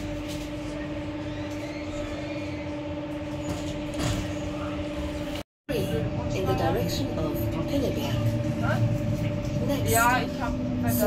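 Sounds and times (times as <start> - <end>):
train electric hum: 0.0 - 11.0.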